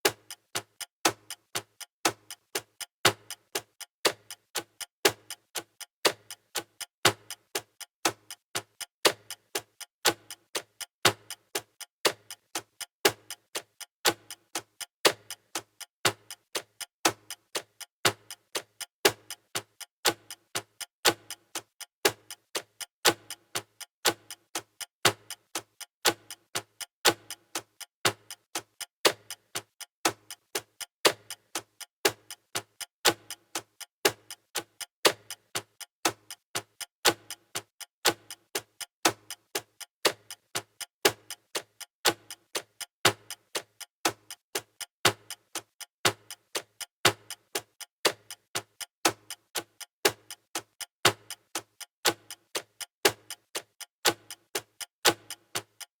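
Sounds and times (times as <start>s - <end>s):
clock ticking: 0.0s - 55.9s.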